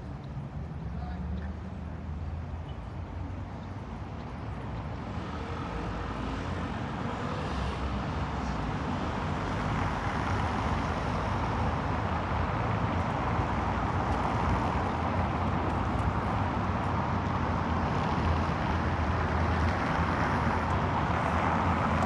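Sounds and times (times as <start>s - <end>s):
city traffic hum: 0.0s - 22.0s.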